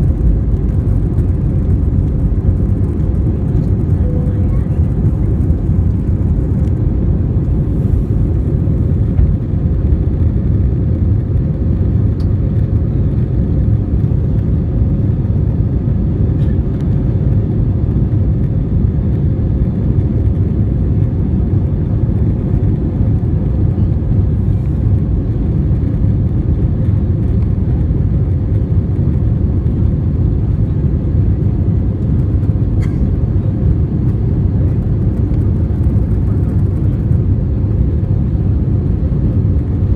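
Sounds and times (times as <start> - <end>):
airplane engine and airflow rumble: 0.0 - 39.9.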